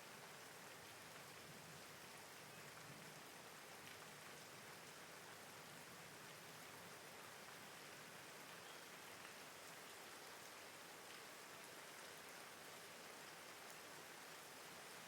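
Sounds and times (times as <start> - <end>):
soft rain hiss: 0.0 - 15.0.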